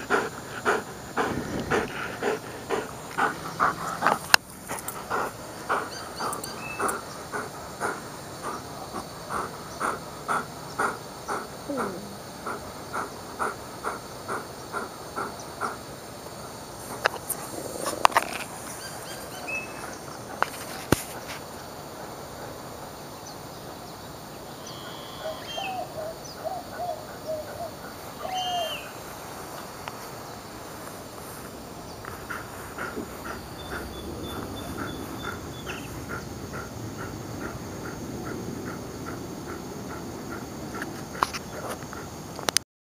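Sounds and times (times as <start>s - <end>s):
bird calls: 0.0s - 15.8s, 16.9s - 21.0s, 23.2s - 30.0s, 31.2s - 42.1s
insects chirping: 0.0s - 42.6s.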